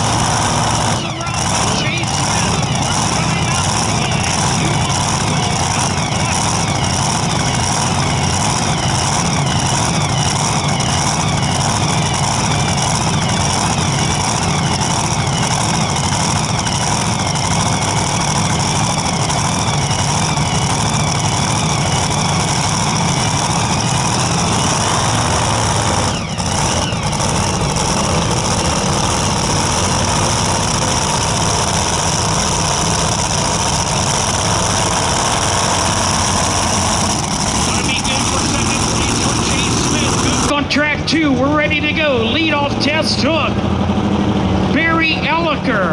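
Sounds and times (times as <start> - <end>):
tractor engine at full throttle: 0.0 - 45.9.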